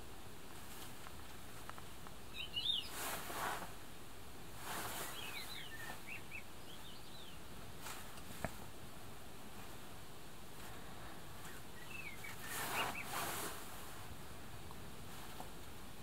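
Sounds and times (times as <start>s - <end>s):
steady background hiss: 0.0s - 16.0s
soft noise rushes: 0.1s - 16.0s
songbird chirping: 0.5s - 16.0s.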